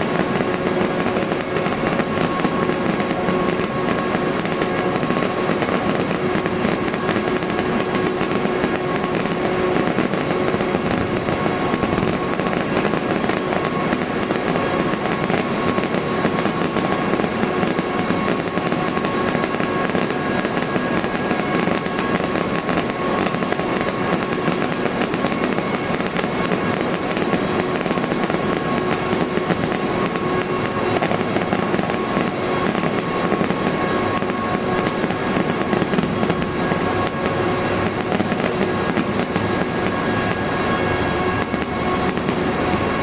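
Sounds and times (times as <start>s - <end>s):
firecrackers crackling: 0.0s - 43.0s
steady droning tones: 0.0s - 43.0s.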